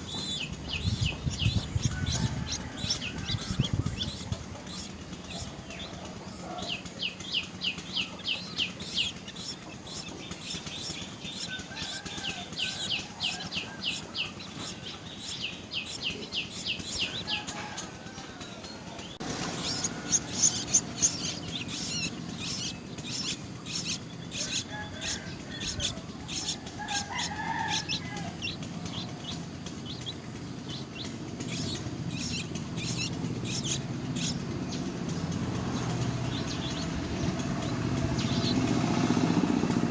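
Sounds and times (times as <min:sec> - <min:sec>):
rapid high bird chirps: 0:00.0 - 0:39.9.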